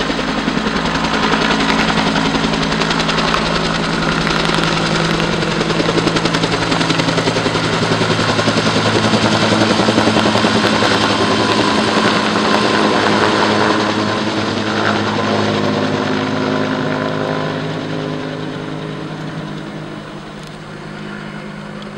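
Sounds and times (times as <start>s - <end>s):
helicopter flying overhead: 0.0s - 21.9s.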